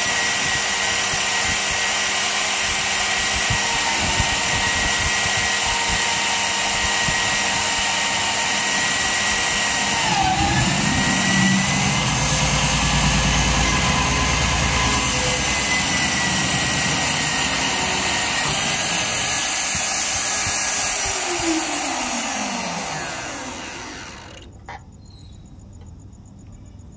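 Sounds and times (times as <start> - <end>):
drill boring through steel: 0.0 - 24.5.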